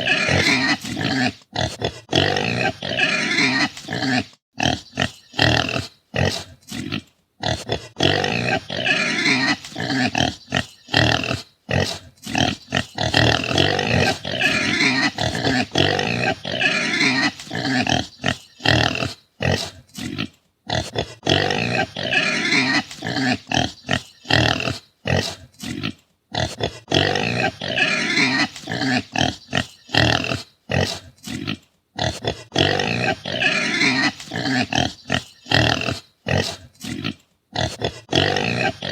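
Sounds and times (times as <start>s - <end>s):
pigs grunting: 0.0s - 38.9s.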